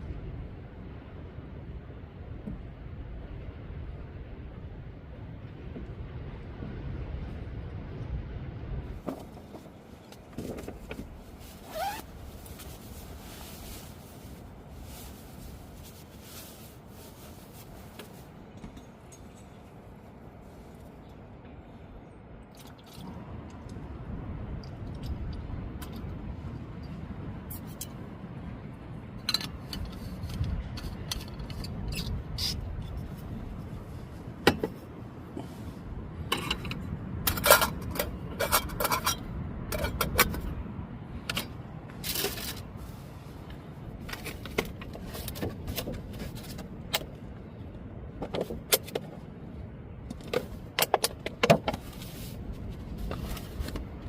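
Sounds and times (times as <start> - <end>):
steady low rumble: 0.0 - 50.8.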